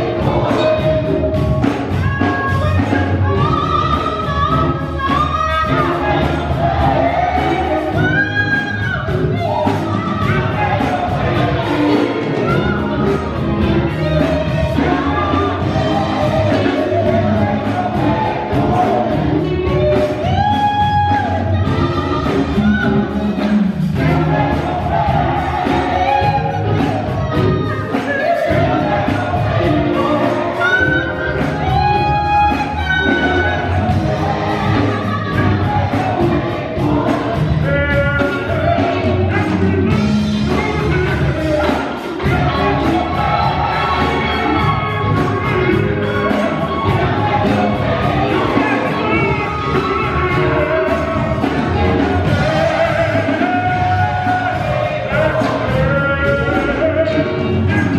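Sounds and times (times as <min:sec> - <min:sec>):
band with drums: 0:00.0 - 0:57.9
gospel choir singing: 0:00.0 - 0:57.9
lead vocalist singing: 0:00.0 - 0:57.9
steady beat: 0:00.0 - 0:57.9.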